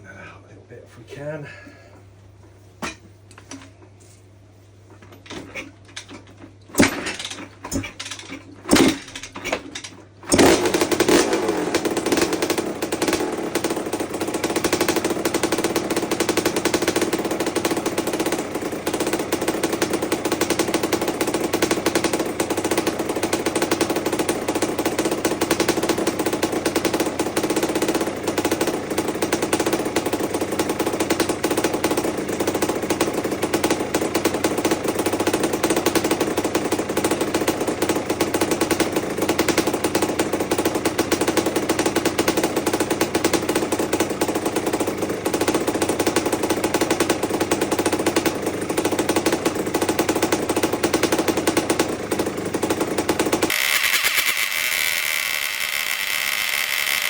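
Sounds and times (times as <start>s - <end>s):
two-stroke engine running: 5.0s - 57.0s.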